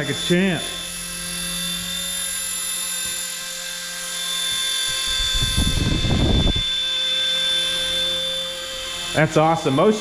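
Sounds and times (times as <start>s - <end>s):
rc helicopter rotor whine: 0.0s - 10.0s.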